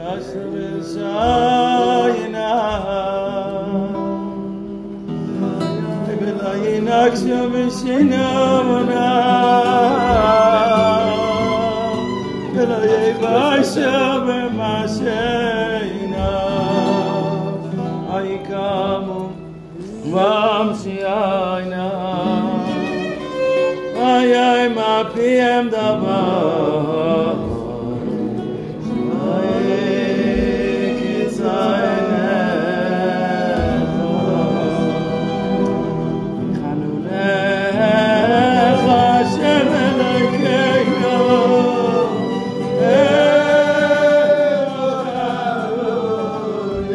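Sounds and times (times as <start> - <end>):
low instrumental accompaniment: 0.0 - 21.3, 26.2 - 46.9
person singing long gliding notes: 0.0 - 46.9.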